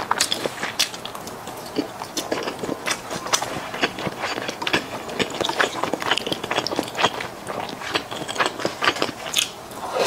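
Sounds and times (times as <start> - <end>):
wet chewing mouth clicks: 0.0 - 9.5.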